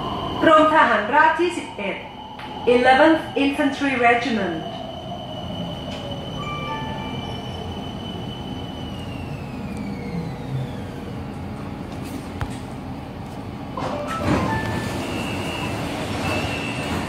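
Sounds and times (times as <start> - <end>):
train car rumble: 0.0 - 17.0.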